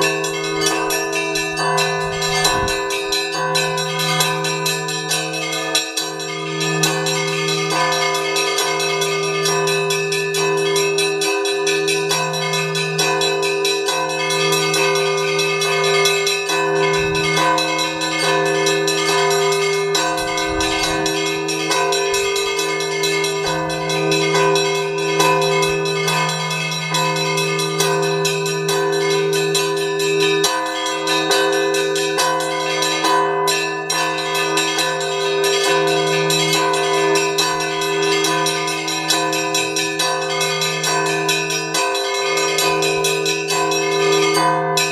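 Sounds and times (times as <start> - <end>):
large bells humming: 0.0 - 44.9
small church bells pealing: 0.0 - 44.9.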